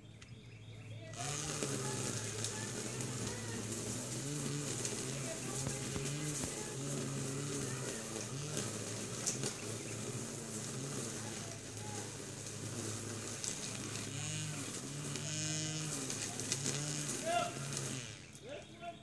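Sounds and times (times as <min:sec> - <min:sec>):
power trimmer motor revving: 0:01.1 - 0:18.4.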